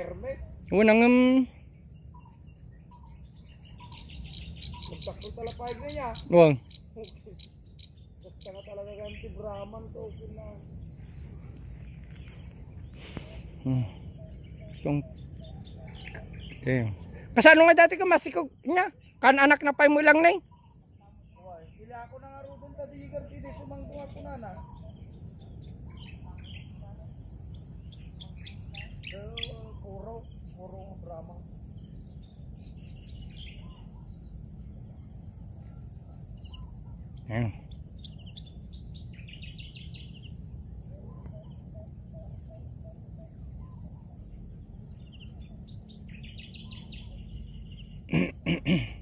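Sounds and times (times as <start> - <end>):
bird chirps: 0.0 - 34.6, 35.5 - 49.0
high-pitched insect drone: 0.0 - 49.0.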